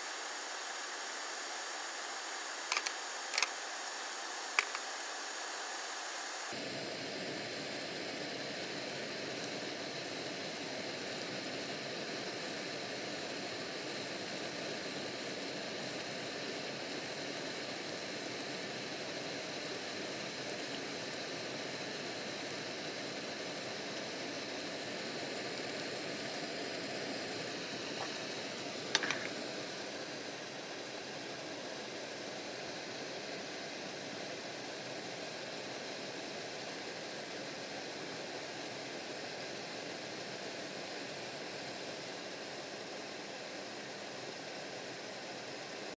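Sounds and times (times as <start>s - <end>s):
gas burner hissing: 0.0s - 44.8s.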